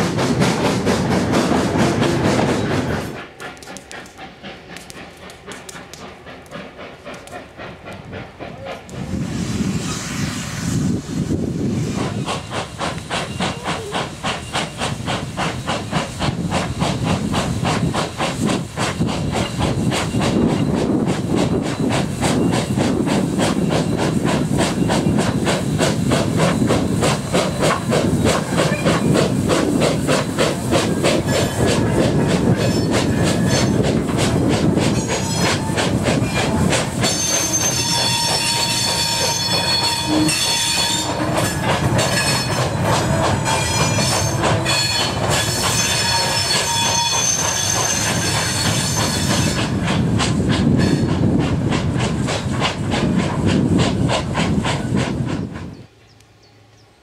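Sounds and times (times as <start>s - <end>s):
steam locomotive exhaust beating: 0.0s - 56.0s
train wheels squealing: 0.8s - 51.4s.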